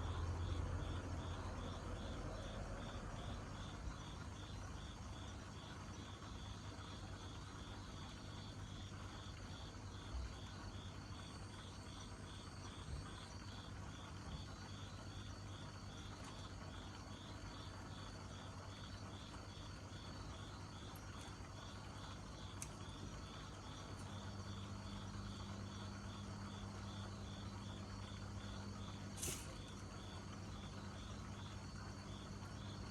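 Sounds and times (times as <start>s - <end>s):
continuous low hum: 0.0s - 32.9s
insect chirping: 0.0s - 32.9s.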